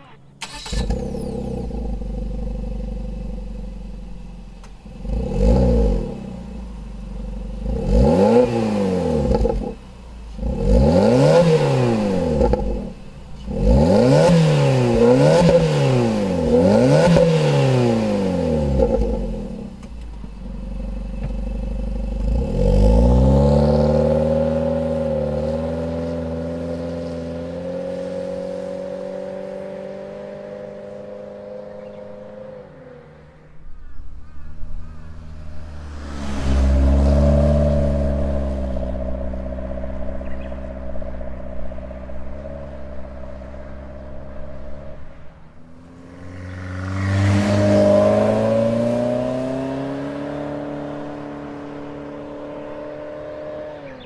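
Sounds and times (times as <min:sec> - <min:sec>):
car accelerating away: 0:00.0 - 0:54.0
car engine idling and revving: 0:00.0 - 0:54.0.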